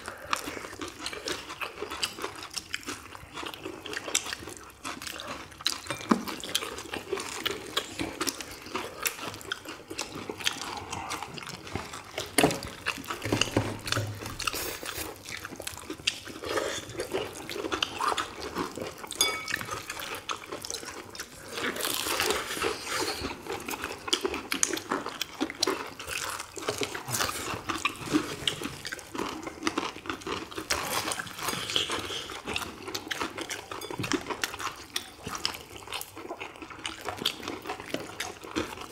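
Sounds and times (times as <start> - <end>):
people chewing crispy chicken: 0.0 - 38.9.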